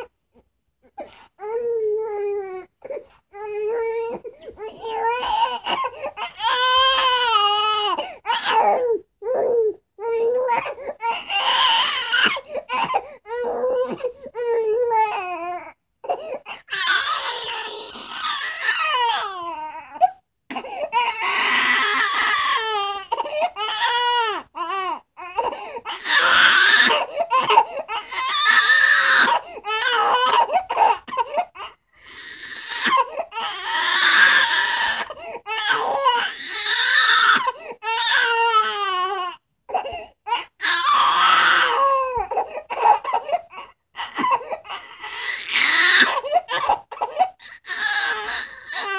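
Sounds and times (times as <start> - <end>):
infant crying: 0.8 - 48.9.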